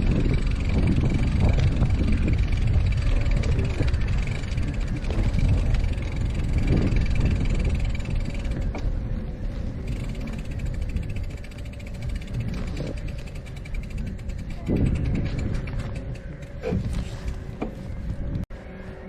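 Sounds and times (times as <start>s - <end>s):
wind buffeting microphone: 0.0s - 18.8s.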